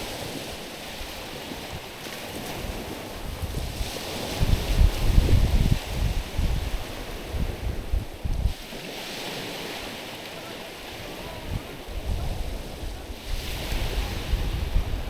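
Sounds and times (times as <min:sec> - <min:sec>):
wind buffeting microphone: 0:00.0 - 0:10.0, 0:10.8 - 0:15.0
small waves on stony beach: 0:00.0 - 0:15.0.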